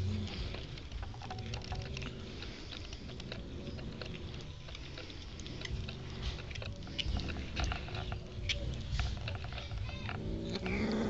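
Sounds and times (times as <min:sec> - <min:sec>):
cats chewing raw meat: 0:00.0 - 0:11.0.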